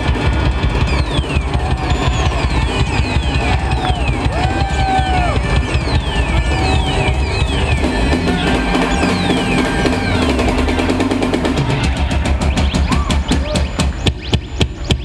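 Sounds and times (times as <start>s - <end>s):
live funk band playing: 0.0s - 15.0s.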